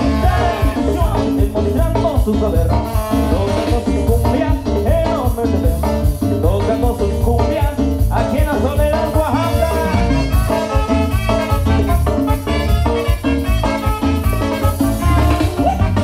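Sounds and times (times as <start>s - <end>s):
live dance band music: 0.0s - 16.0s.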